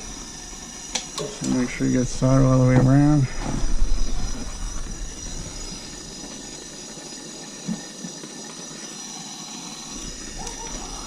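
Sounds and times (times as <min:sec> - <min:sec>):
soldering torch hissing: 0:00.0 - 0:11.0.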